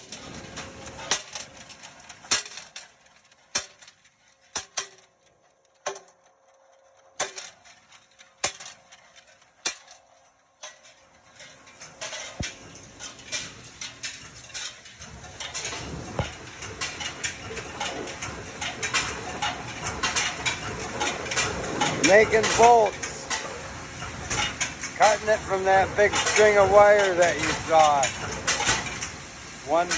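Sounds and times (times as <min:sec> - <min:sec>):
machine metallic clacks: 0:00.0 - 0:29.9.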